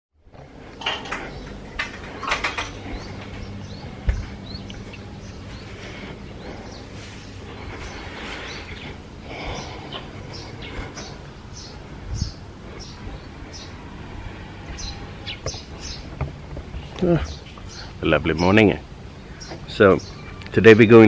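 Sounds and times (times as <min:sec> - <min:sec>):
birds chirping: 0:00.2 - 0:21.0
low steady hum: 0:00.2 - 0:21.0.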